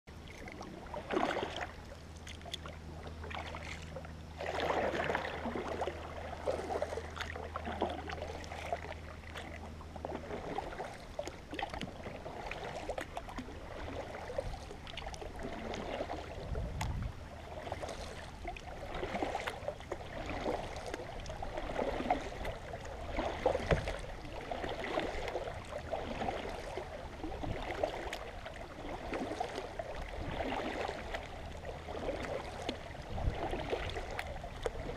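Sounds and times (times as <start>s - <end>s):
kayak paddle splashing water: 0.1s - 34.9s.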